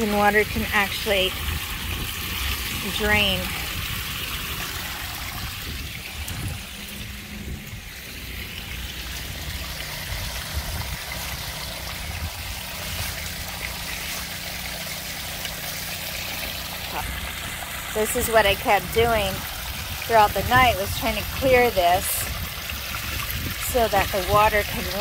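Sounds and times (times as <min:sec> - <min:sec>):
water trickling into drain: 0:00.0 - 0:25.0.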